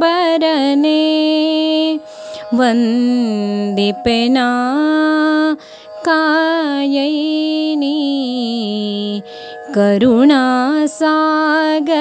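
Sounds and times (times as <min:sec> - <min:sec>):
woman singing devotional song: 0:00.0 - 0:12.0.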